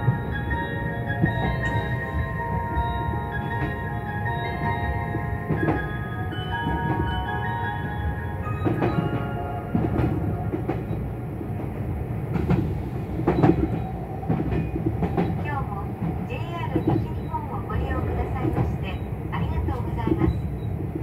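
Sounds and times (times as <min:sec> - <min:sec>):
train chime melody: 0:00.0 - 0:20.9
train running rumble: 0:00.0 - 0:21.0.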